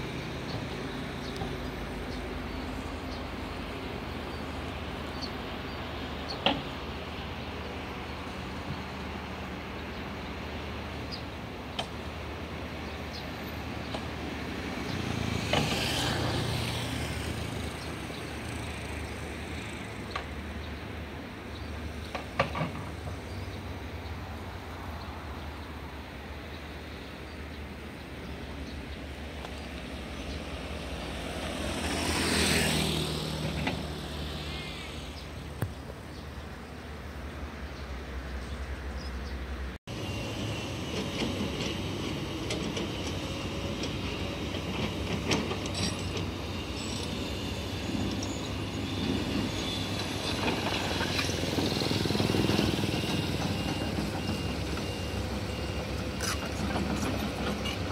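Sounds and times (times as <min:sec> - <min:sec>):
road vehicles passing: 0:00.0 - 0:57.9.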